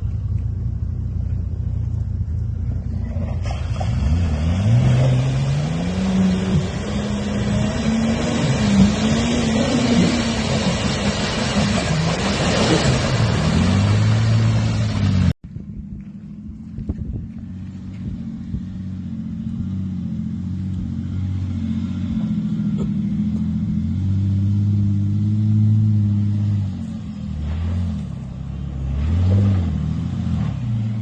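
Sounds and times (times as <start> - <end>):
engine revving under load: 2.9 - 15.4, 17.5 - 31.0.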